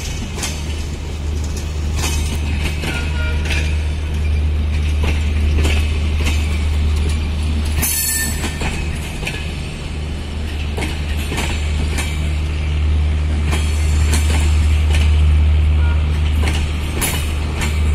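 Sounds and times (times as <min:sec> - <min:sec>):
wheels clicking over rail joints: 0:00.0 - 0:15.3, 0:16.1 - 0:17.9
train rumble: 0:00.0 - 0:17.9.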